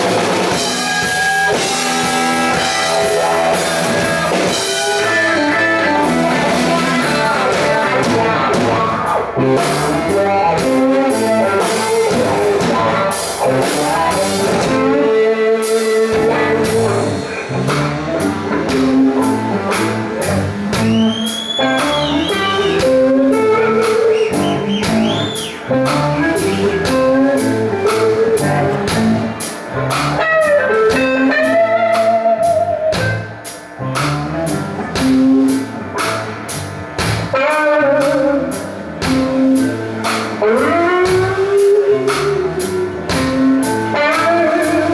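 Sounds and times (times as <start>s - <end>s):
drum beat: 0.0s - 15.0s, 18.6s - 30.3s, 30.9s - 34.2s, 34.9s - 38.2s, 39.0s - 42.4s, 43.0s - 44.8s
lead electric guitar bending notes: 0.0s - 44.9s
rock band playing live: 0.0s - 44.9s.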